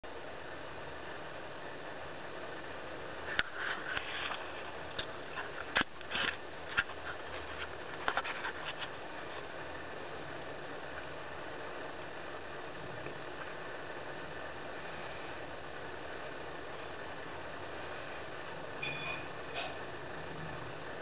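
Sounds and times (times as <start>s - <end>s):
room noise hiss: 0.0s - 21.0s.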